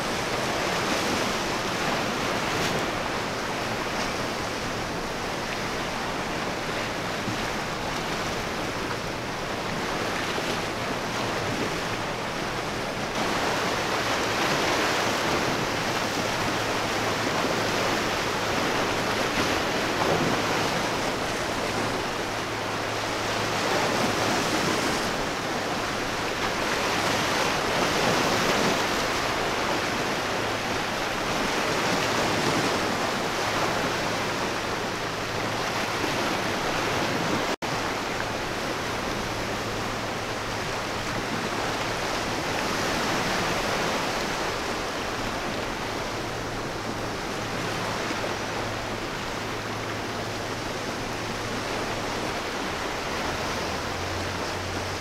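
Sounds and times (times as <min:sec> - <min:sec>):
waves breaking: 0:00.0 - 0:55.0
wind: 0:00.0 - 0:55.0.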